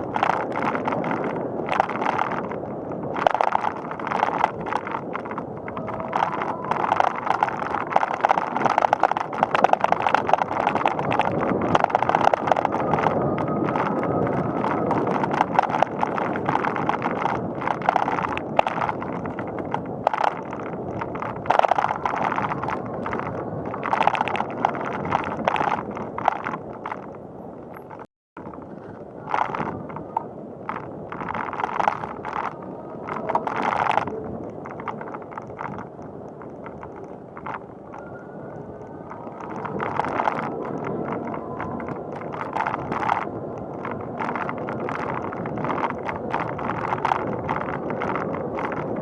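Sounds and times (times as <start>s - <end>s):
bicycle tyres rolling on pavement: 0.0s - 49.0s
bike rattling clicks: 0.0s - 49.0s.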